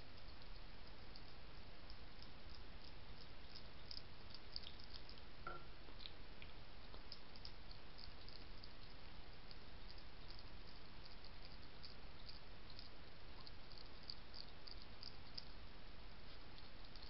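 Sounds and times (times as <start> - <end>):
microphone hiss: 0.0 - 17.0.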